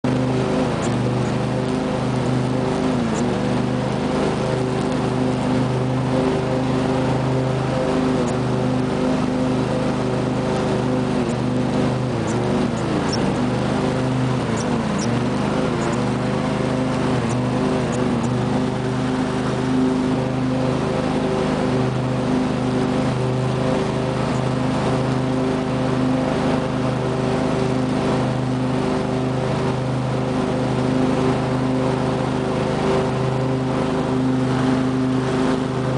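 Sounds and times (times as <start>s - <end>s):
lawn tractor engine mowing: 0.0s - 35.9s.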